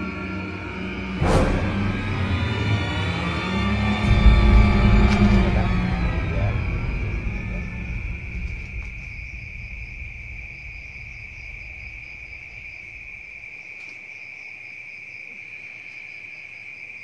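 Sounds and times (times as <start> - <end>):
high-pitched insect pulsing: 0.0 - 14.0
crickets trilling: 0.0 - 17.0.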